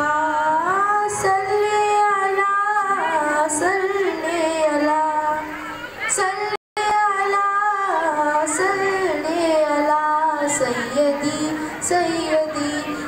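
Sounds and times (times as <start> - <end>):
girl singing into a microphone: 0.0 - 13.0.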